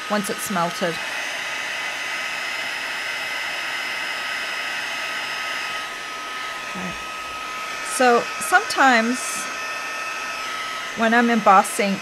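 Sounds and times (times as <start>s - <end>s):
heat tool blowing: 0.0s - 12.0s.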